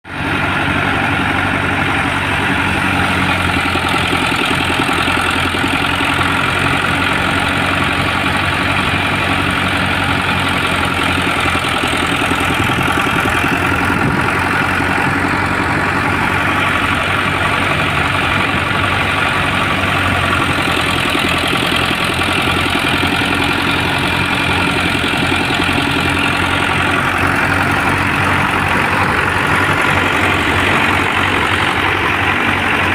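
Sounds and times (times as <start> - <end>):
tractor engine drone: 0.0 - 32.9
thresher rushing noise: 0.1 - 32.9.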